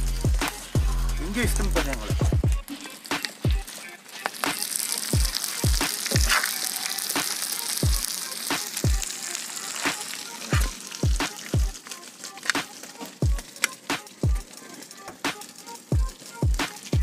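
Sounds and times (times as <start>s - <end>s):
music with deep booming beat: 0.0s - 6.5s, 7.2s - 9.1s, 9.9s - 11.8s, 12.5s - 17.0s
crabs sizzling in hot oil: 0.0s - 17.0s.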